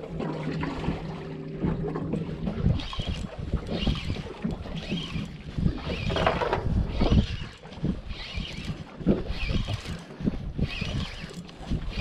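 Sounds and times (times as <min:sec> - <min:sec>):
water sloshing against boat hull: 0:00.0 - 0:12.0
wind buffeting microphone: 0:00.2 - 0:12.0.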